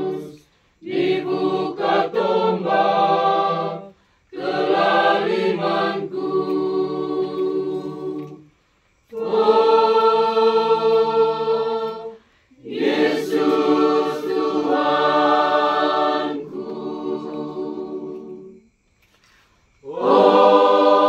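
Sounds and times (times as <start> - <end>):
choir singing a hymn: 0.0 - 18.8, 19.8 - 21.0.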